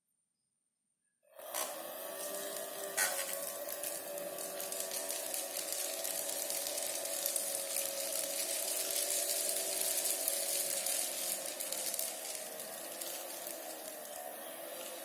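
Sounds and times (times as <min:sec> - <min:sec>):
small electric motor whining: 0:01.3 - 0:15.0.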